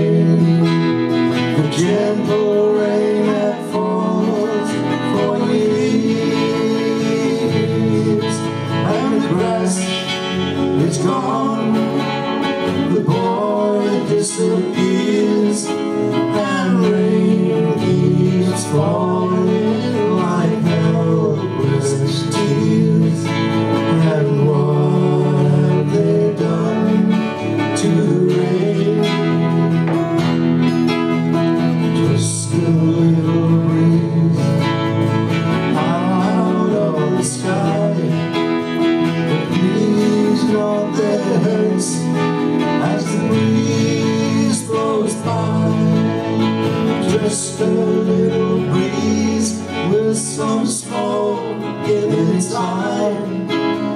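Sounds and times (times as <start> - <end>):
men singing a folk song: 0.0 - 30.6, 31.8 - 53.9
acoustic guitars strummed: 0.0 - 53.9.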